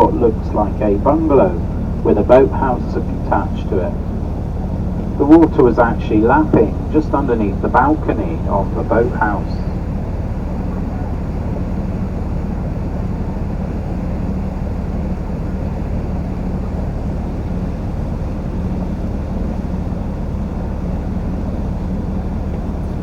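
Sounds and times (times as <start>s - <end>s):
boat engine drone: 0.0s - 23.0s
water and wind noise: 0.0s - 23.0s.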